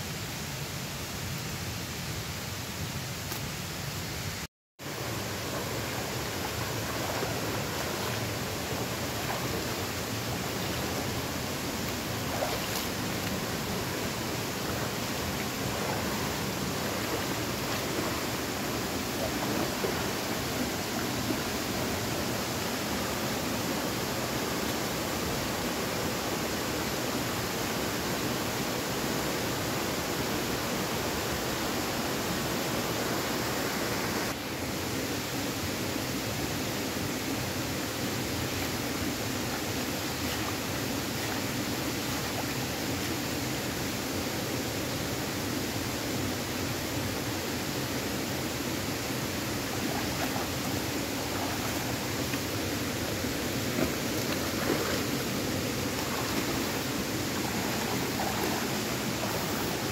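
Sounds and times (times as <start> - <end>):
stream rushing over rocks: 0.3 - 59.9.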